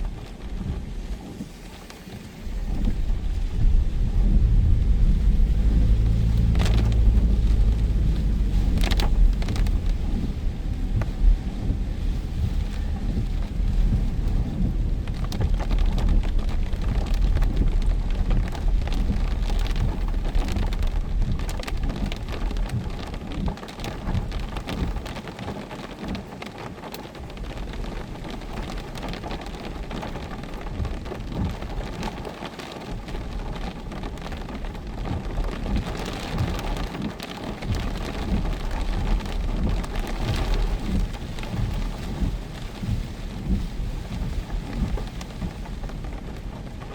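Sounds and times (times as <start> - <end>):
strong low wind rumble: 0.0 - 25.2, 26.2 - 46.9
heavy rain patter: 0.0 - 46.9.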